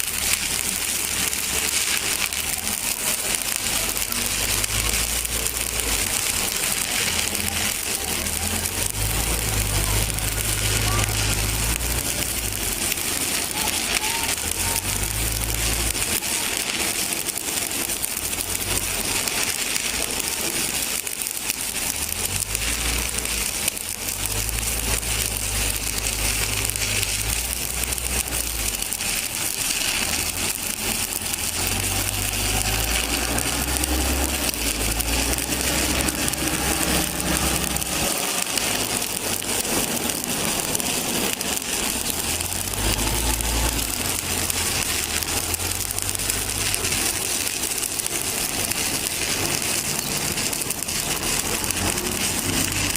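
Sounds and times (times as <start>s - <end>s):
welding arc crackling and sizzling: 0.0s - 52.9s.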